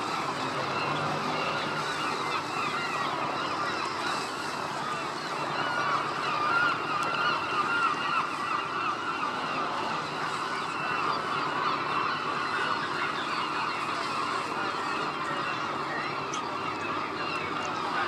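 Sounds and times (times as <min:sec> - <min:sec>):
gulls calling: 0:00.0 - 0:18.0.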